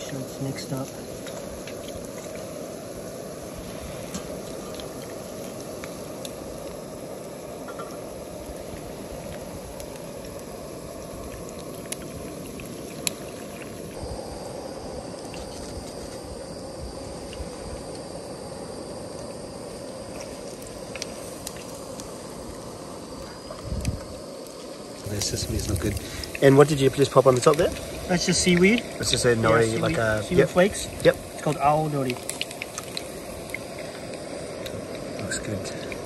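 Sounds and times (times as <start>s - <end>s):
pot of stock boiling: 0.0s - 36.0s.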